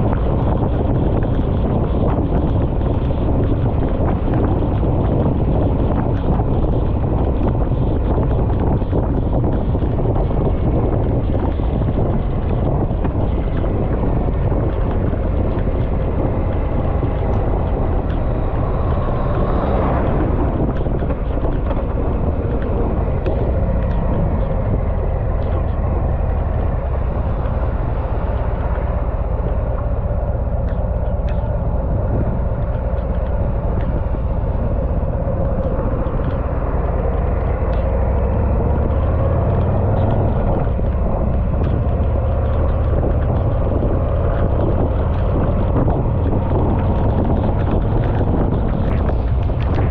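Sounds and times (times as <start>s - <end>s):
motorcycle engine rumble: 0.0s - 49.9s
wind noise on microphone: 0.0s - 49.9s.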